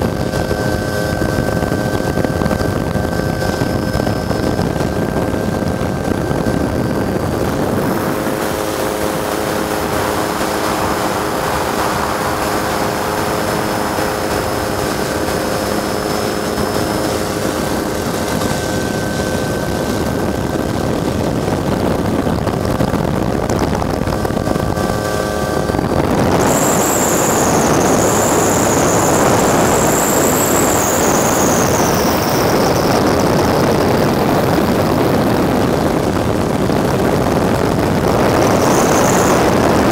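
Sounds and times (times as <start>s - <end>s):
helicopter rumble: 0.0s - 39.9s
loud high whine: 0.0s - 39.9s.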